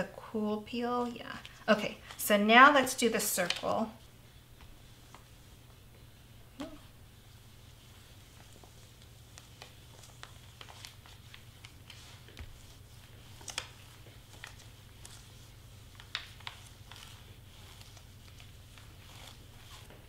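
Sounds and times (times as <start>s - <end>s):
steady low hum: 0.0s - 20.0s
paper rustling: 1.0s - 5.6s, 7.2s - 20.0s.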